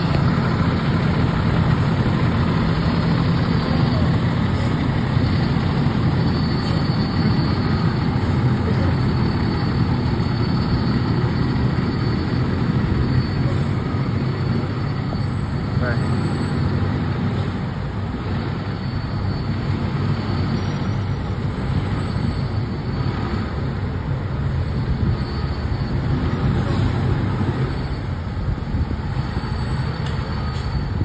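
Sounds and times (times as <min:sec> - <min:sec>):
diesel engine rumbling: 0:00.0 - 0:31.0.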